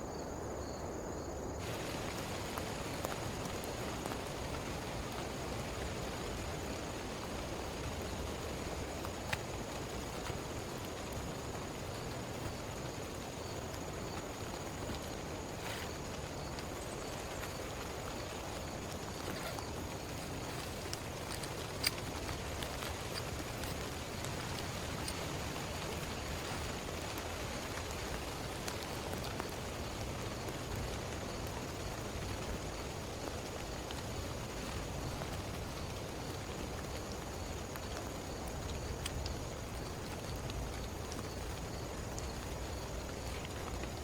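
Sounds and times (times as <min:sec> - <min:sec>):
heavy rain falling: 0:01.6 - 0:44.0
raindrop ticks: 0:01.6 - 0:44.0.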